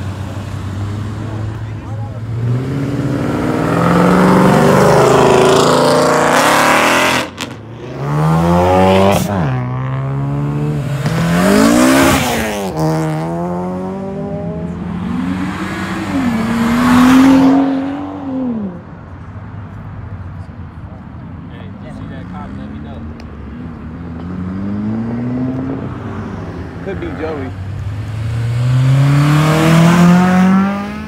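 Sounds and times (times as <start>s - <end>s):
car engine revving: 0.0s - 18.8s, 22.3s - 31.0s.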